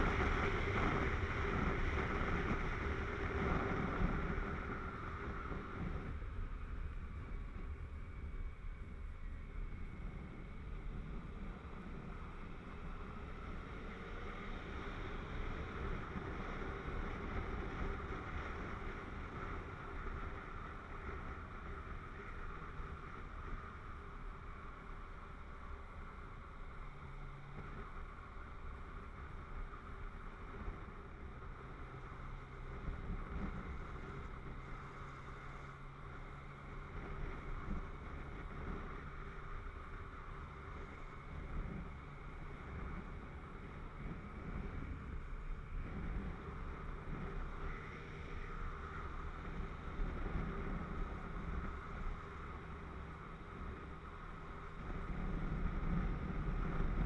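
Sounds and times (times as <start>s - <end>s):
road noise: 0.0s - 57.0s
wind rush on microphone: 0.0s - 57.0s.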